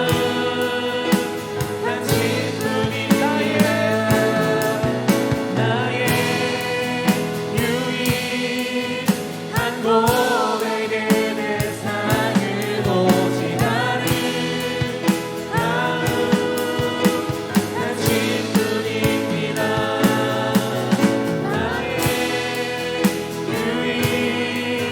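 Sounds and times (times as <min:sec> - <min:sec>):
voices singing worship song: 0:00.0 - 0:24.9.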